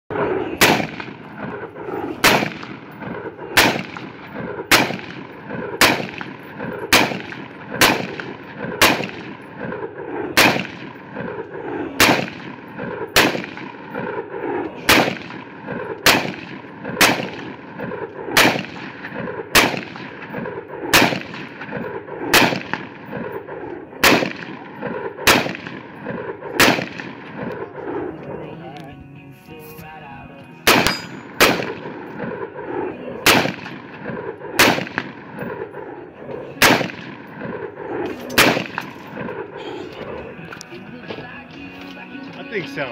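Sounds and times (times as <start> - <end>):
pistol shots with echo: 0.2 - 28.3, 30.6 - 40.4.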